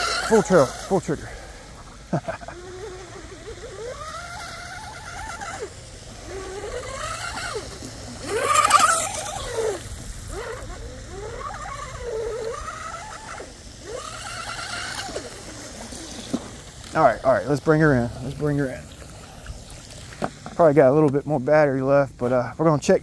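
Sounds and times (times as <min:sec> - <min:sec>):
boat spray hiss: 0:00.0 - 0:20.6
electric motor whine: 0:00.0 - 0:20.6.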